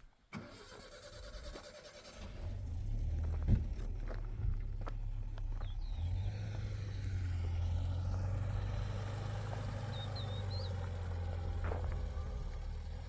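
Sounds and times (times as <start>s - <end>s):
engine humming: 2.1s - 13.0s.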